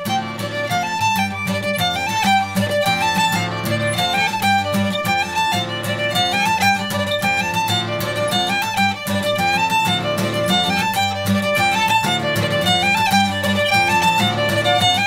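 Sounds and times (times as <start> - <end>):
fiddle melody: 0.0 - 15.0
guitar backing: 0.0 - 15.0.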